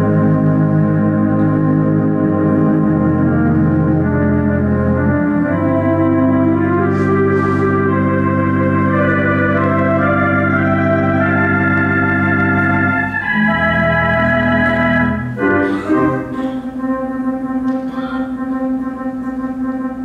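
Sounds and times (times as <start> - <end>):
theatre organ chords: 0.0 - 20.0.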